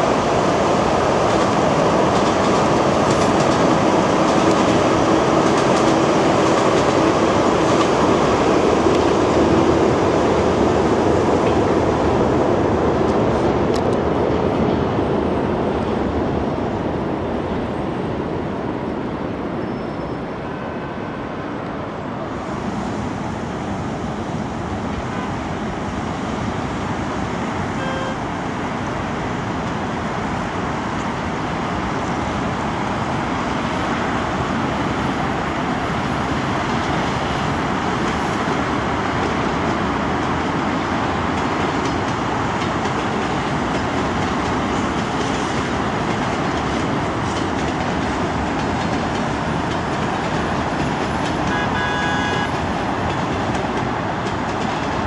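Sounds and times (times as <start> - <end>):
city road traffic: 0.0 - 55.0
train wheels rumbling on rails: 0.0 - 55.0.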